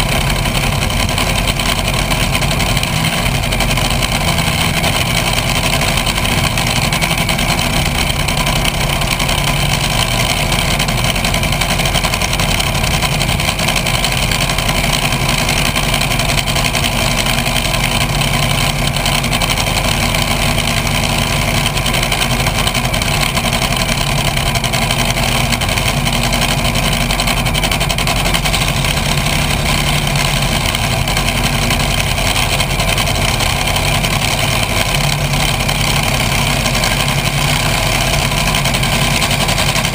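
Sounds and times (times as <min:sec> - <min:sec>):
dragster engine idling loudly: 0:00.0 - 0:39.9.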